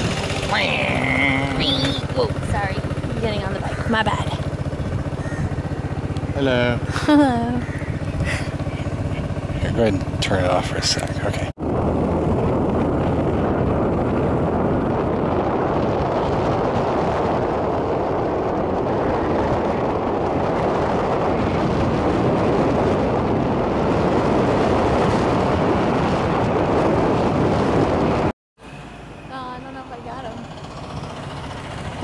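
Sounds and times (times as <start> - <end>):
wind on microphone: 0.0 - 28.3
motorbike engine running: 0.0 - 32.0.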